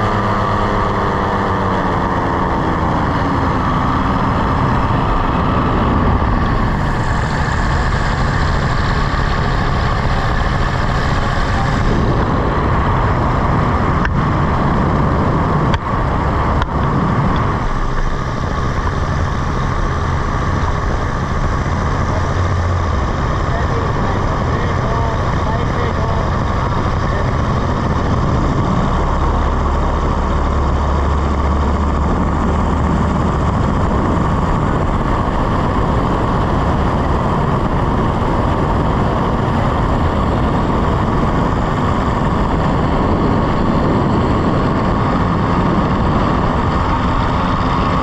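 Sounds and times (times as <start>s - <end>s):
paramotor engine and propeller: 0.0s - 48.0s
wind noise on microphone: 0.0s - 48.0s.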